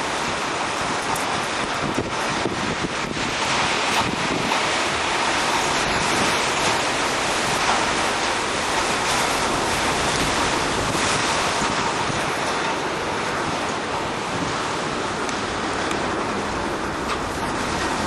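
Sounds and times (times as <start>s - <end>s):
strong wind blowing: 0.0s - 18.0s.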